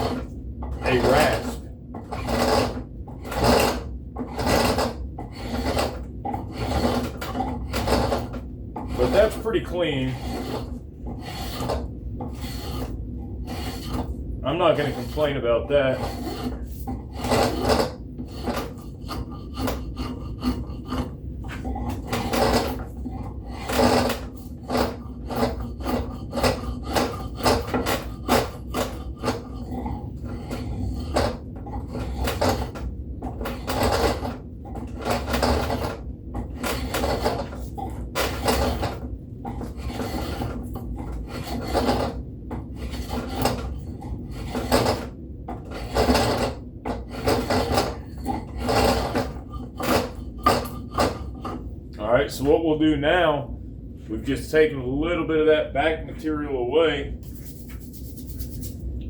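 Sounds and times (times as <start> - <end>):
rasp scraping wood: 0.0 - 52.6, 57.2 - 58.9.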